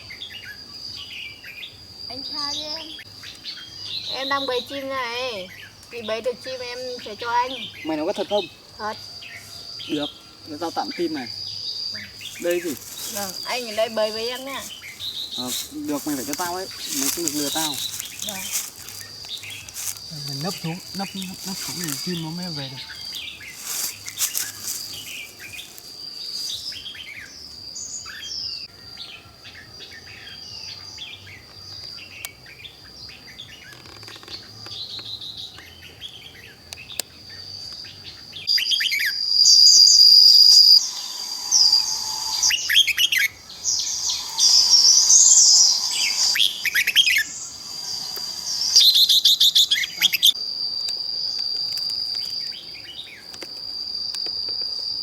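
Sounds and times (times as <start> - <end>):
small birds chirping and trilling: 0.0 - 50.4
high-pitched insect drone: 0.1 - 29.1, 38.5 - 55.0.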